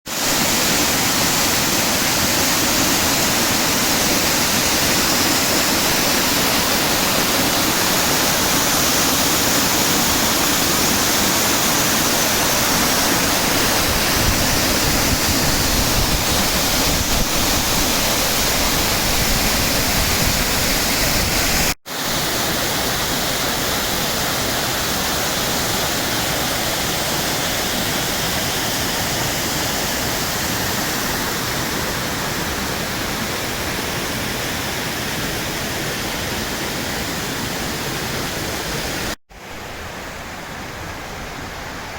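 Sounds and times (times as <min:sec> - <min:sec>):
waterfall rushing: 0:00.1 - 0:41.9.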